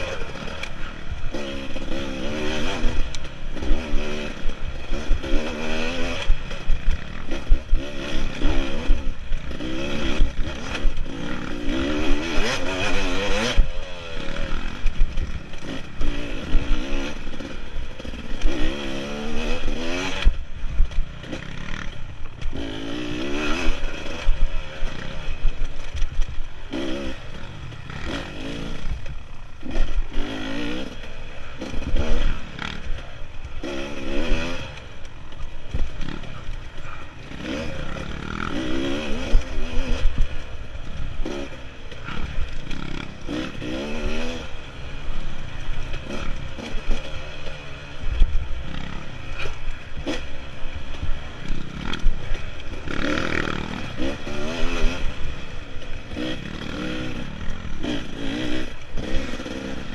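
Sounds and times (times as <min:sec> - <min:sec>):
bike rattling over rough ground: 0:00.0 - 0:59.9
dirt bike engine revving: 0:00.0 - 0:59.9.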